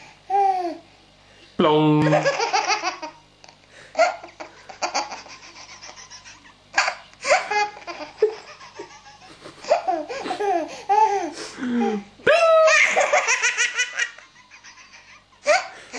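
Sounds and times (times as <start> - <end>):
baby laughing: 2.1 - 12.0, 12.6 - 15.8.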